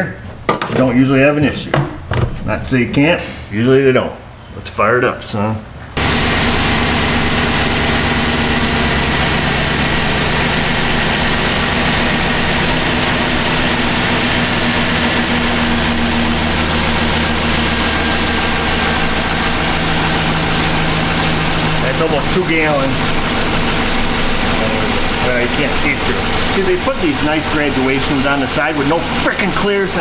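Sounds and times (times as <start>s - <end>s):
truck engine idling: 6.0s - 30.0s.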